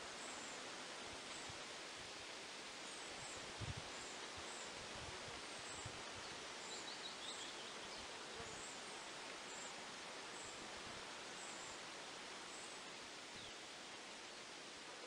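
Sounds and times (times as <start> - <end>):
steady rustling hiss: 0.0 - 15.0.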